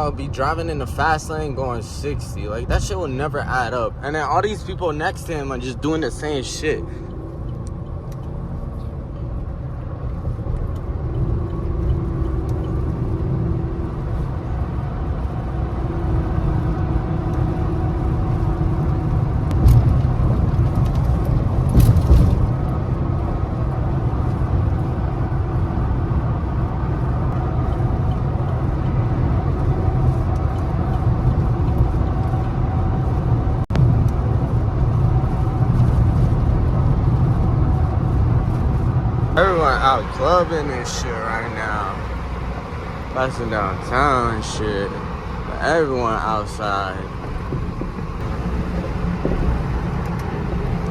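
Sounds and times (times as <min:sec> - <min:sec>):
engine and road noise drone: 0:00.0 - 0:50.9.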